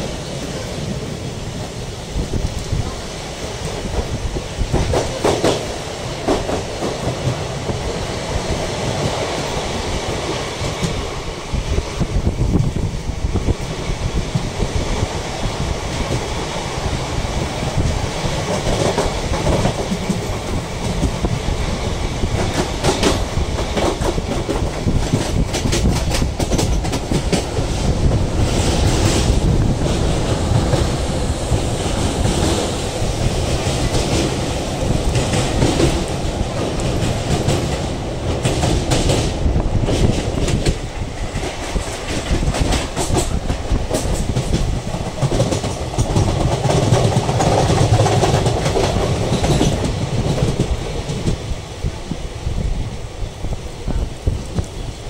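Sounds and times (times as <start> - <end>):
train rumble: 0.0 - 55.0
wheels clacking over rail joints: 2.2 - 52.2.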